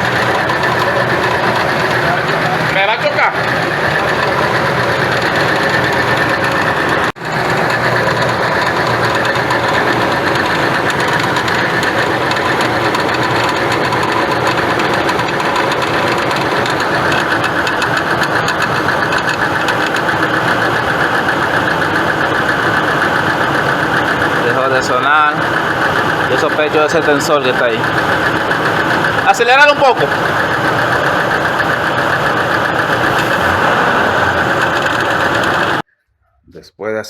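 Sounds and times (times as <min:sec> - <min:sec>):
engine knocking: 0:00.0 - 0:35.9
engine running: 0:00.0 - 0:35.9.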